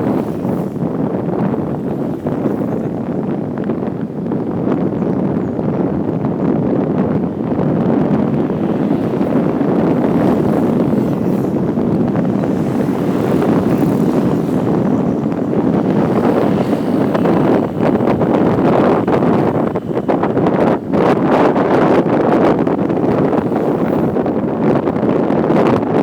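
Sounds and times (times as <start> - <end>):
motorcycle engine running: 0.0 - 25.5
wind buffeting microphone: 0.0 - 26.0.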